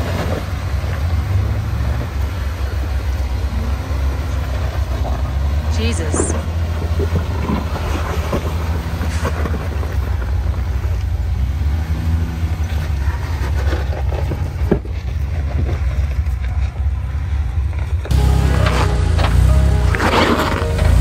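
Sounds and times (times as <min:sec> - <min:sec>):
truck engine low rumble: 0:00.0 - 0:21.0.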